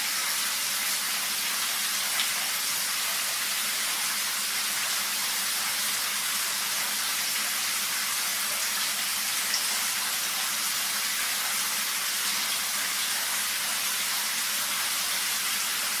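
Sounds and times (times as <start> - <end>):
shower water spraying: 0.0 - 16.0.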